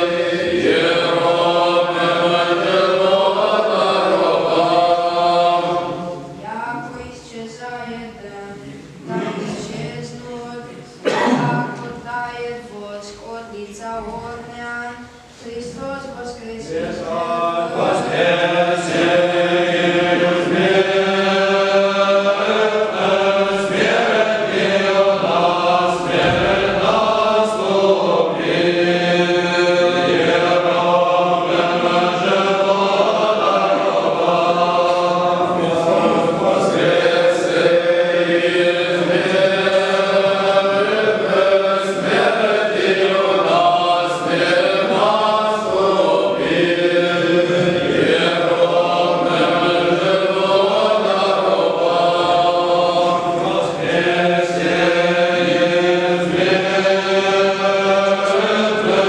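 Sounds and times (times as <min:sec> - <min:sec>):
choir chanting in harmony: 0:00.0 - 0:12.5, 0:15.6 - 0:59.0.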